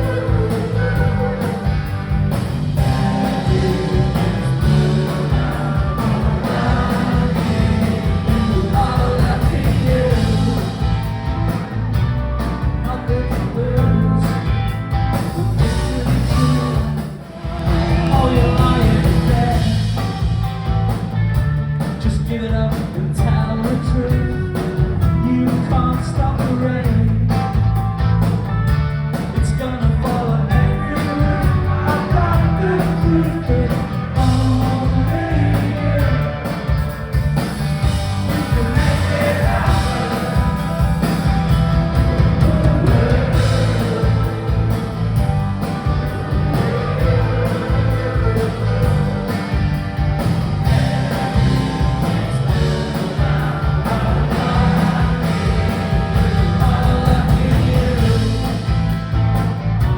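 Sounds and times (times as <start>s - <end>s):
live rock band playing: 0.0s - 59.9s
steady drum beat: 0.0s - 59.9s.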